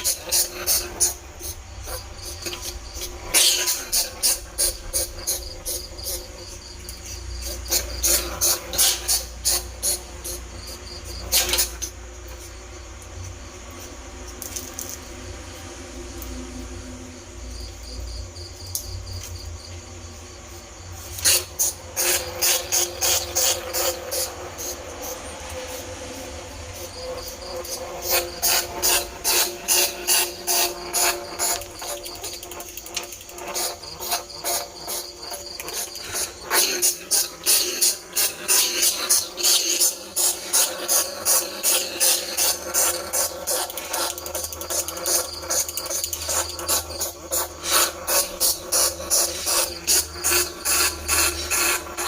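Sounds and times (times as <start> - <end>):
rat squeaking: 0.0 - 12.5, 21.0 - 52.0
insect chirping: 0.0 - 52.0.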